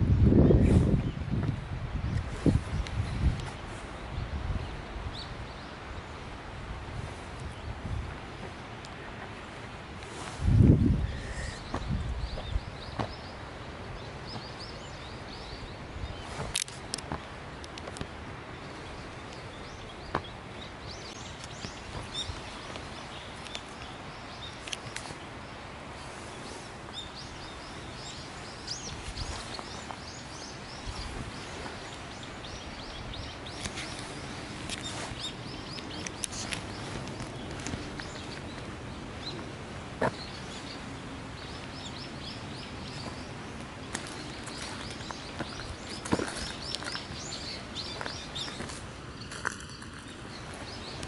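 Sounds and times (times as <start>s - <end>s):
small birds chirping: 0.0s - 51.0s
steady outdoor hiss: 0.0s - 51.0s.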